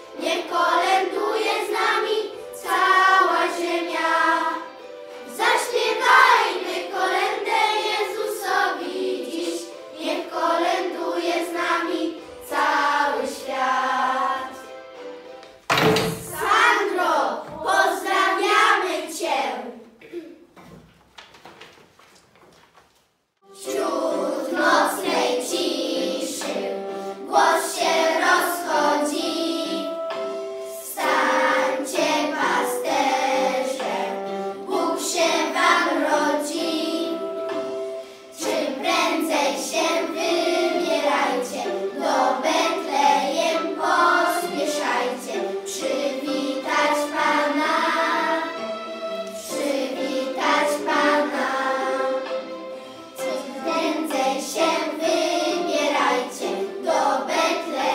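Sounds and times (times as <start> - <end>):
children singing a carol: 0.0 - 15.0, 16.2 - 19.9, 23.4 - 57.9.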